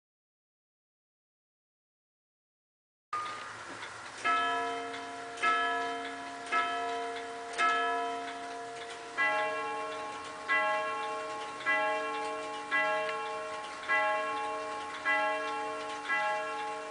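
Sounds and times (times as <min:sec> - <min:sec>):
clock chime on high gong rod: 0:03.2 - 0:16.9.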